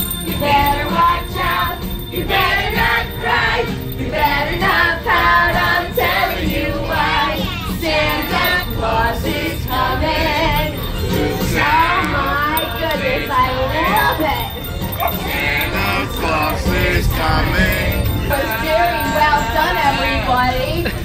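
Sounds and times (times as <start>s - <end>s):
group singing a christmas song: 0.0s - 21.0s
woman singing: 0.2s - 14.7s, 16.4s - 21.0s.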